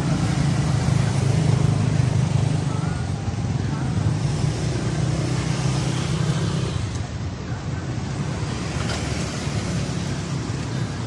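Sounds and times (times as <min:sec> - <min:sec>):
motor scooters passing: 0:00.0 - 0:07.1, 0:08.0 - 0:11.0
cars passing: 0:00.0 - 0:11.0.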